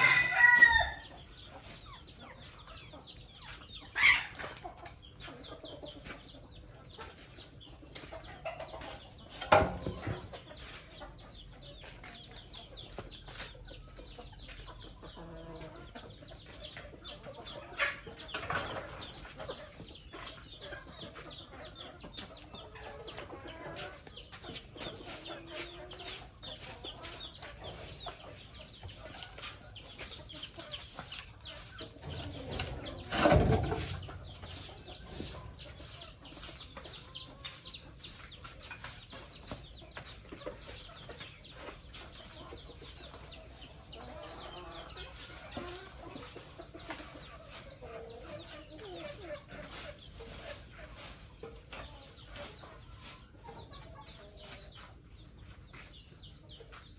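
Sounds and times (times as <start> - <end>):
chickens clucking and chirping: 0.0 - 56.9.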